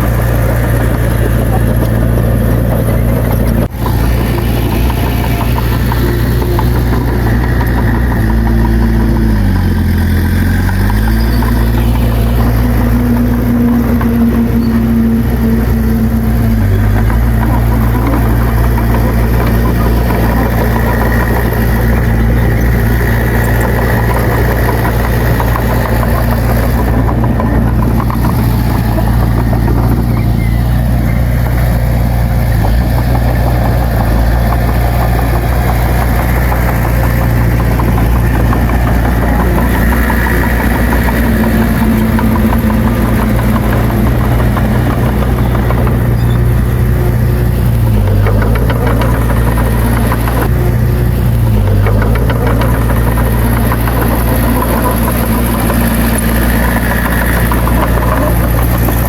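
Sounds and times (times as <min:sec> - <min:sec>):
bulldozer engine droning: 0:00.0 - 0:59.0.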